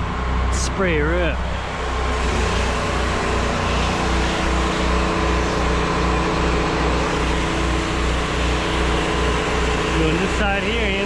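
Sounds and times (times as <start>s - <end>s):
pressure washer engine throbbing: 0.0s - 11.0s.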